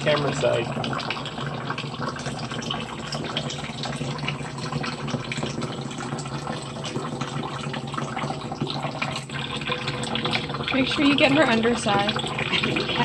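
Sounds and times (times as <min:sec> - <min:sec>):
tap water running into tub: 0:00.0 - 0:13.0.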